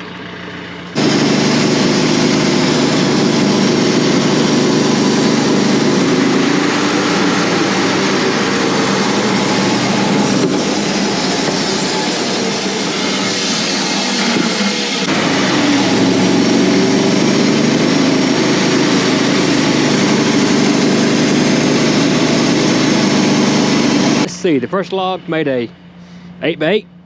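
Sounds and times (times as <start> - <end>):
band sawmill cutting log: 0.0 - 25.1.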